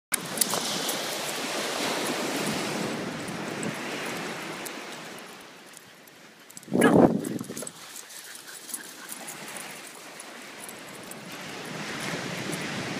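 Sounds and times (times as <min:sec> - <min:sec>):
ocean surf washing on beach: 0:00.1 - 0:12.9
wind buffeting microphone: 0:00.2 - 0:05.4, 0:06.5 - 0:07.9, 0:08.8 - 0:12.9.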